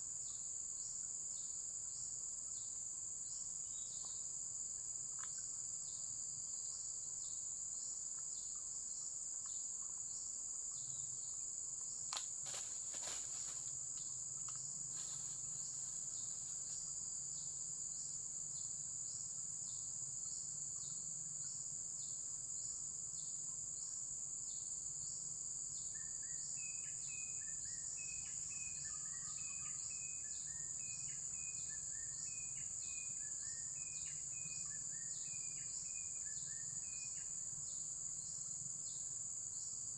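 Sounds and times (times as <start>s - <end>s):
insects chirring: 0.2s - 39.9s.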